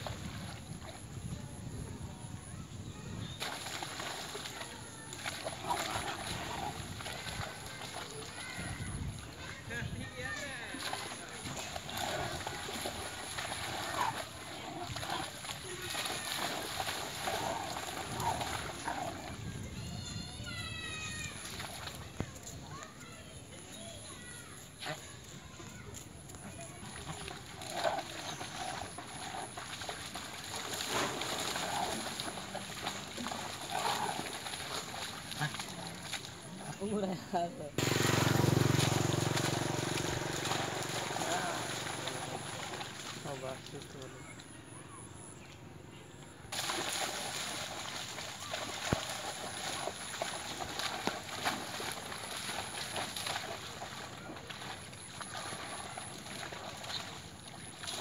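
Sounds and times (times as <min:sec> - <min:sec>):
water splashing and sloshing: 0:00.0 - 0:02.2, 0:02.9 - 0:23.6, 0:24.6 - 0:44.5, 0:46.3 - 0:58.0.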